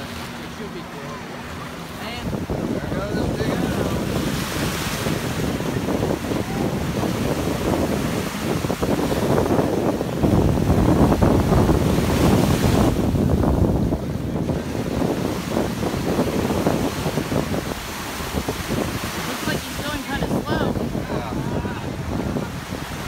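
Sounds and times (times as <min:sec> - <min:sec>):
small waves breaking: 0:00.0 - 0:23.0
wind buffeting microphone: 0:00.0 - 0:23.0.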